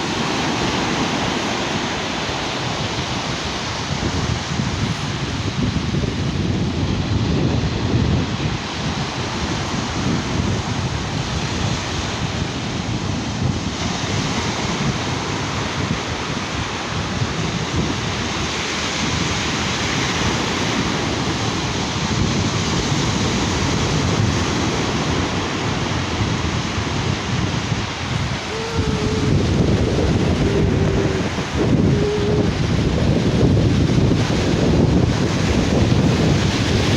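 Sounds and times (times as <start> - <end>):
waves washing onto beach: 0.0 - 36.9
wind buffeting microphone: 0.0 - 36.9.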